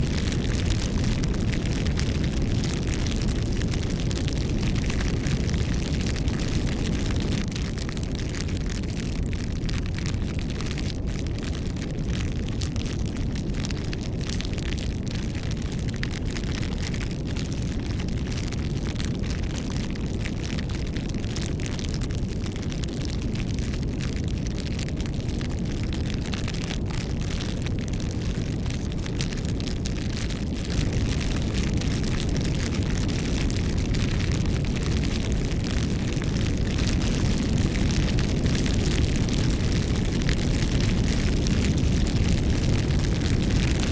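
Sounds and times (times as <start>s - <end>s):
bonfire flames rumbling: 0.0s - 43.9s
fire crackling and popping: 0.0s - 43.9s.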